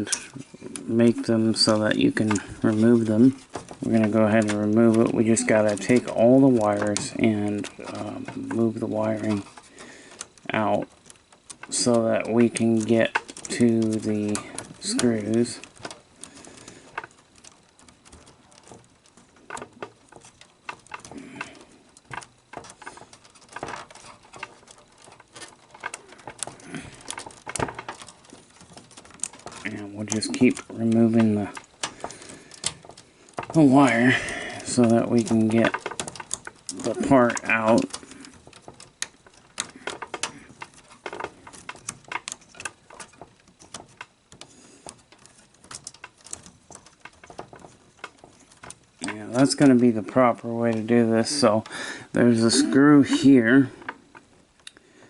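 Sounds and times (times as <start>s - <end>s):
wiring and connectors rustling: 0.0s - 55.0s.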